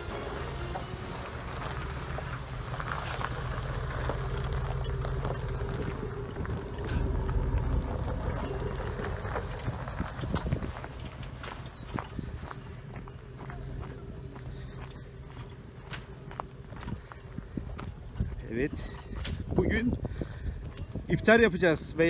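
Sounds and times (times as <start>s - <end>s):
knocks and clatter: 0.0s - 21.0s
vehicle engine running: 0.0s - 22.0s.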